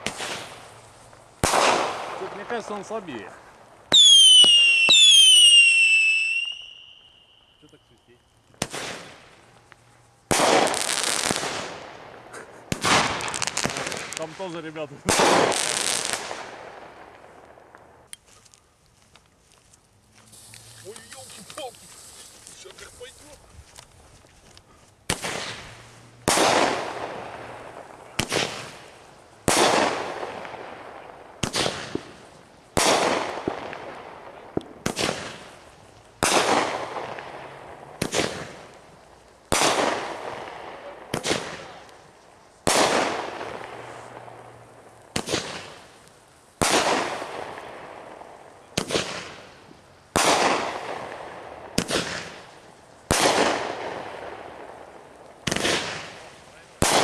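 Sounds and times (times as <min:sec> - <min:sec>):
firework bangs: 0:00.0 - 0:18.0, 0:25.0 - 0:57.0
firework hiss: 0:00.0 - 0:18.5, 0:19.6 - 0:57.0.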